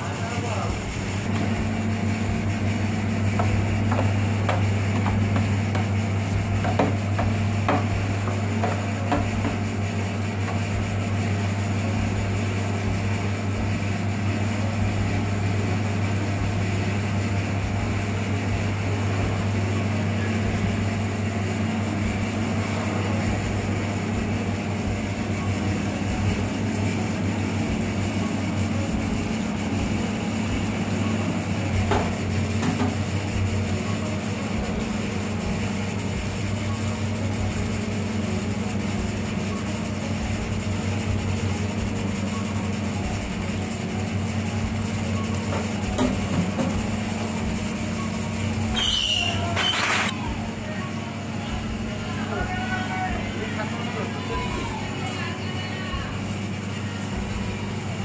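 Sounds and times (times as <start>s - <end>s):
machine motor hum: 0.1s - 58.0s.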